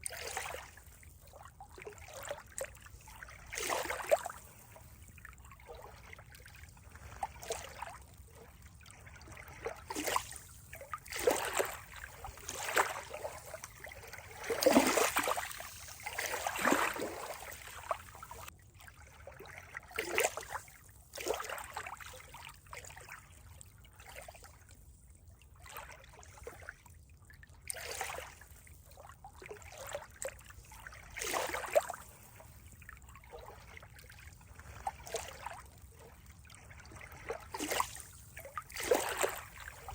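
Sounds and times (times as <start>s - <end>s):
faint steady water wash: 0.0s - 39.9s
water trickling and splashing: 0.0s - 39.9s.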